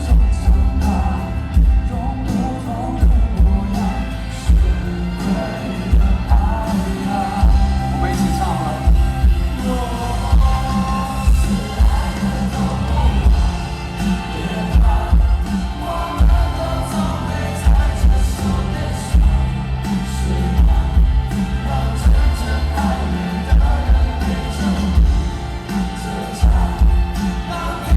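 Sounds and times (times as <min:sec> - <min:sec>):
heavy drum beat: 0:00.0 - 0:27.9
live rock band playing: 0:00.0 - 0:27.9
person singing: 0:00.0 - 0:27.9.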